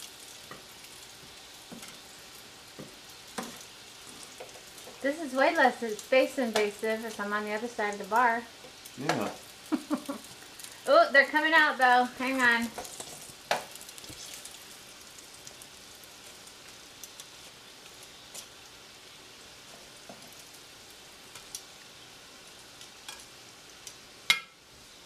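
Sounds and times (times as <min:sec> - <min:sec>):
mushrooms frying in oil: 0:00.0 - 0:25.0.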